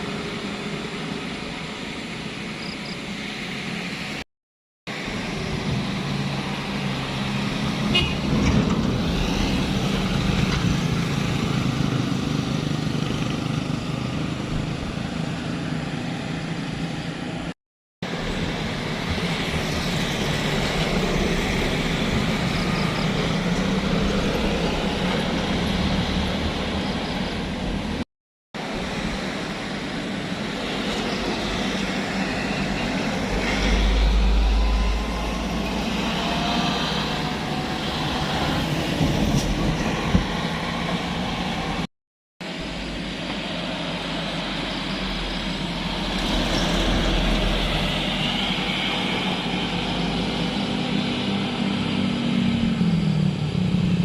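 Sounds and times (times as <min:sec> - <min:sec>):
truck engines under load: 0:05.0 - 0:28.0, 0:28.6 - 0:41.9, 0:42.5 - 0:54.0.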